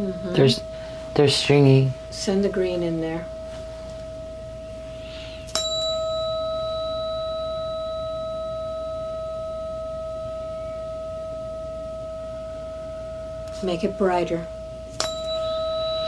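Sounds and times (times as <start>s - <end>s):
metal singing bowl strike: 0.0s - 16.0s
ringing metal tone: 0.0s - 16.0s.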